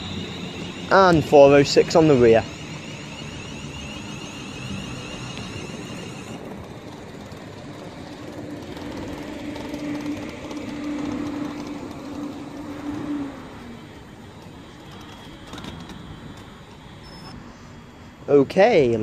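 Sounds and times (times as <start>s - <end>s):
high electrical whine: 0.0s - 19.0s
steady low train hum: 0.0s - 19.0s.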